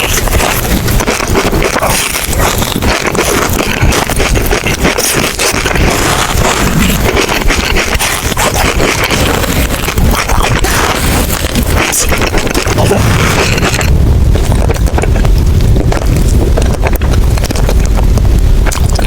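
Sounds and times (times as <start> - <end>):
wet chewing mouth clicks: 0.0 - 19.0.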